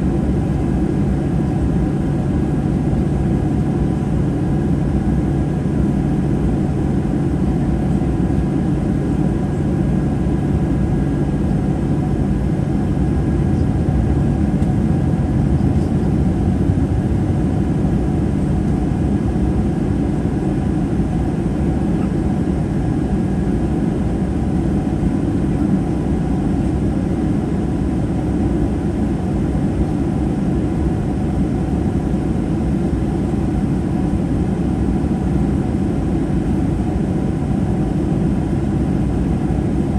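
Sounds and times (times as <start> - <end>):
jet engines droning: 0.0 - 39.9
rushing airflow in aircraft cabin: 0.0 - 39.9.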